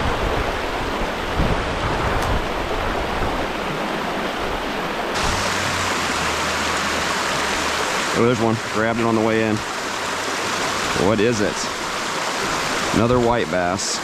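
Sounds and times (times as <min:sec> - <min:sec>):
water rushing over spillway: 0:00.0 - 0:14.0.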